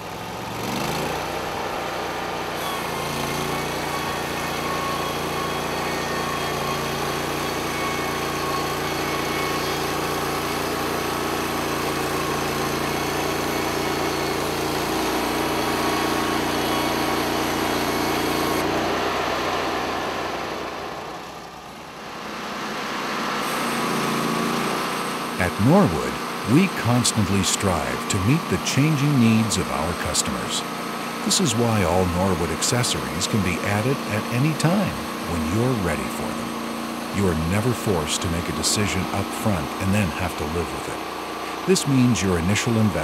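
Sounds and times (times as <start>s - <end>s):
small sawmill engine running: 0.0s - 43.0s.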